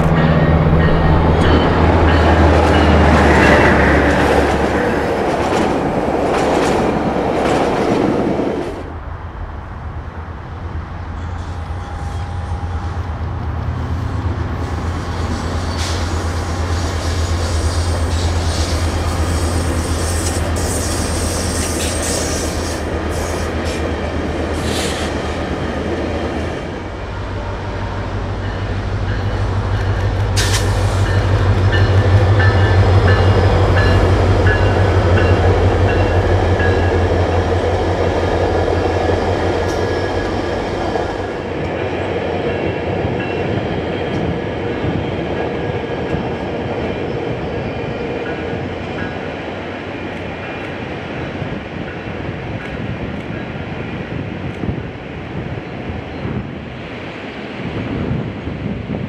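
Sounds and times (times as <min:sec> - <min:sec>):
locomotive engine drone: 0:00.0 - 0:07.8, 0:08.4 - 0:52.6.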